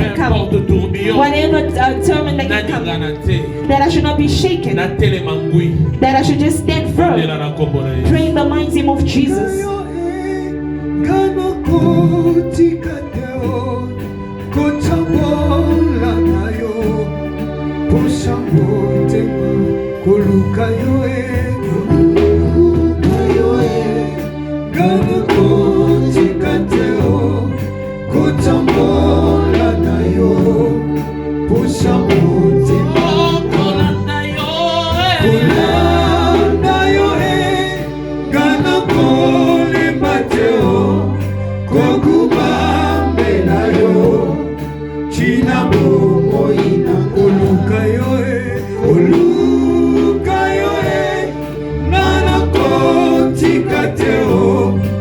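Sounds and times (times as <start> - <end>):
low bass pattern: 0.0 - 55.0
voices singing gospel song: 0.0 - 55.0.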